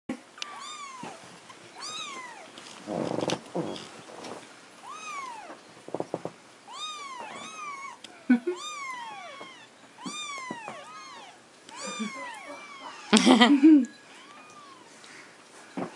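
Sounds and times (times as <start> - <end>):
kittens mewing: 0.4 - 14.9.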